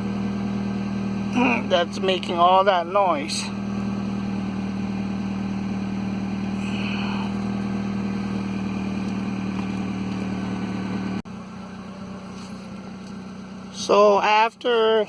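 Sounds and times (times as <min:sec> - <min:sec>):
car blower fan humming: 0:00.0 - 0:15.0.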